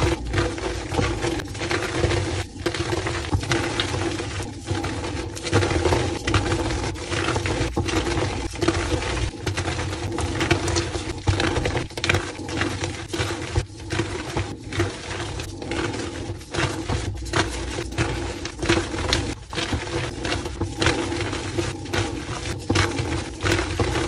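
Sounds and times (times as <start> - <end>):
chalk crunching and crumbling: 0.0 - 24.0.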